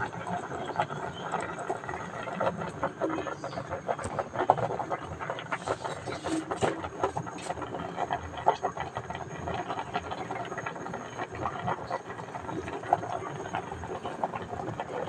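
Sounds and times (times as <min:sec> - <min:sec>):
water boiling hard in a pot: 0:00.0 - 0:15.0.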